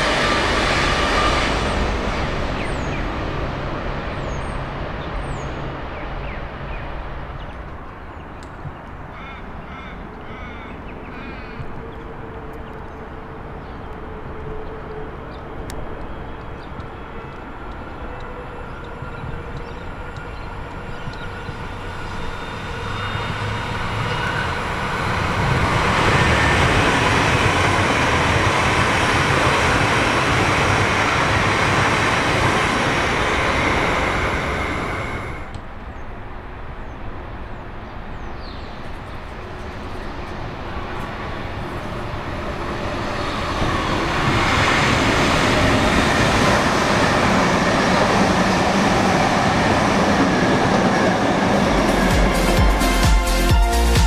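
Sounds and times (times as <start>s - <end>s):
electric train passing close by: 0.0s - 54.0s.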